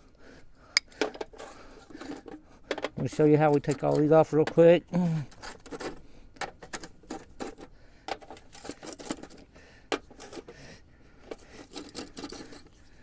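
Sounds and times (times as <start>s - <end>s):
plastic caps clicking and scraping: 0.8s - 13.0s.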